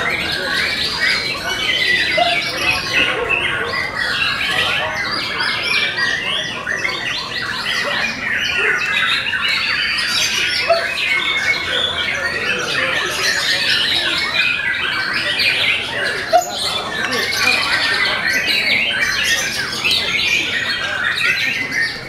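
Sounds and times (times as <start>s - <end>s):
birds singing whistled phrases: 0.0s - 22.0s.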